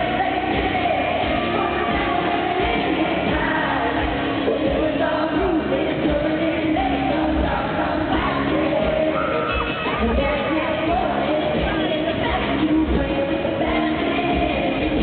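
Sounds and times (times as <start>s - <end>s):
country-pop band playing live: 0.0s - 15.0s
woman singing lead: 0.0s - 15.0s.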